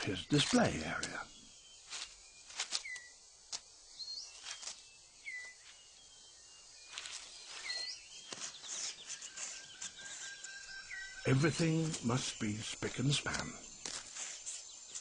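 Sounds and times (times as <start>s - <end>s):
gliding bird calls: 0.0s - 3.2s, 3.8s - 15.0s
high hiss: 0.0s - 15.0s.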